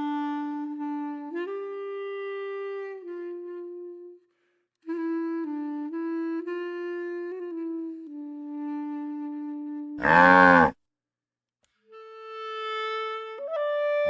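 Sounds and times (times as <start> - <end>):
reed wind instrument long notes: 0.0 - 10.8, 11.9 - 14.0.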